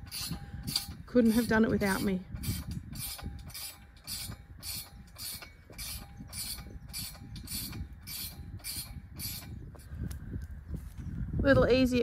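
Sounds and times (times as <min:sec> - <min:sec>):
hand ratchet clicking: 0:00.0 - 0:09.6.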